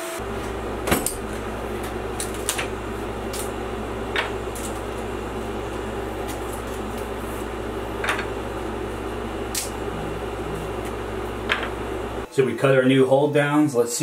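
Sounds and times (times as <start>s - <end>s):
machine hum: 0.0s - 12.3s.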